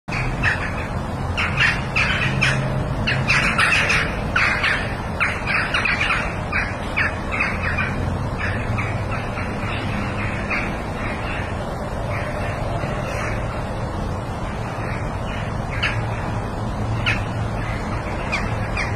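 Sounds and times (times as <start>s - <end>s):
birds squawking harshly: 0.1s - 13.7s, 14.4s - 18.9s.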